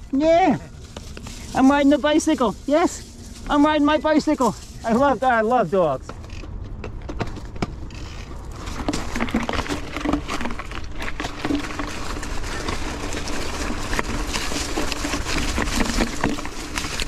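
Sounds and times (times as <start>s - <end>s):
bike tyres on dirt trail: 0.0s - 17.0s.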